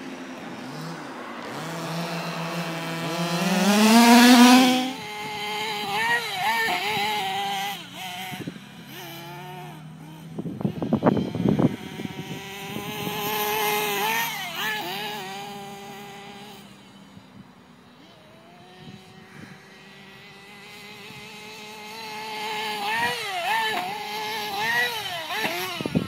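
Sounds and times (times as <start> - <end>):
radio-controlled car engine running: 0.0 - 26.0.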